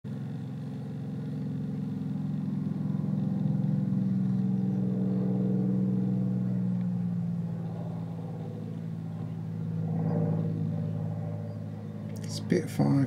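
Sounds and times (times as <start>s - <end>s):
propeller plane engine flying past: 0.1s - 13.0s.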